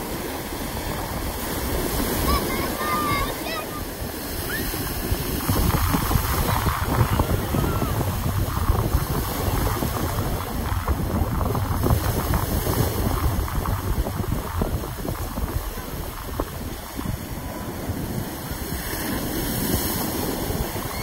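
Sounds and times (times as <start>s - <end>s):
small waves washing on sand: 0.0s - 21.0s
wind buffeting microphone: 0.0s - 21.0s.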